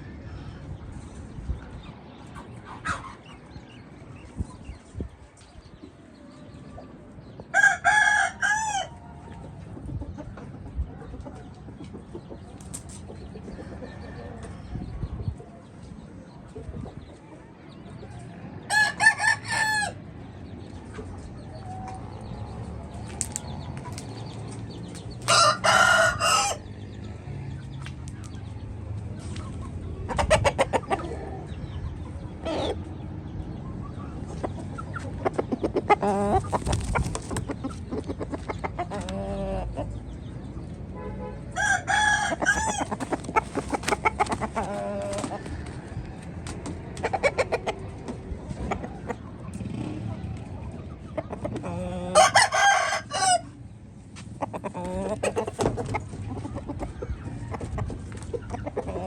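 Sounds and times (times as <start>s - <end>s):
chickens calling loudly: 0.0s - 59.0s
chickens clucking: 0.0s - 59.0s.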